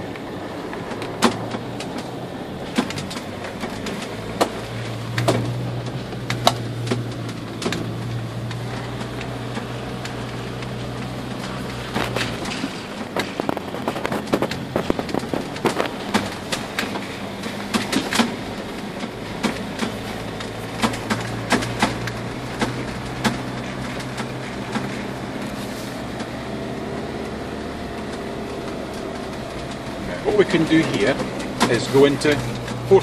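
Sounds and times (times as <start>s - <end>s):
car engine running: 0.0s - 33.0s
knocks and rattles over gravel: 0.0s - 33.0s.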